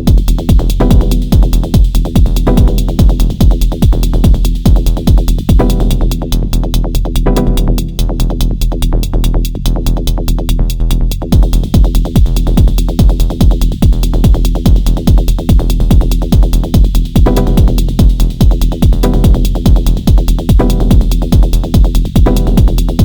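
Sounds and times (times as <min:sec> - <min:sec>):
synth bass: 0:00.0 - 0:23.0
techno drum machine beat: 0:00.0 - 0:23.0.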